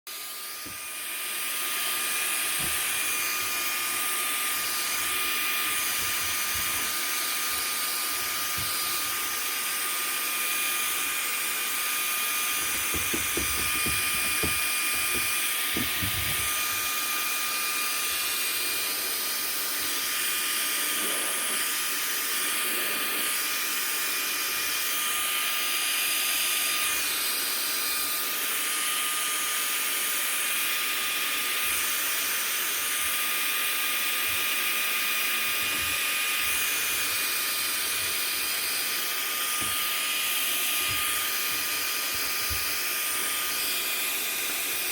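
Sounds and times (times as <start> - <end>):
vacuum cleaner running: 0.1 - 44.9.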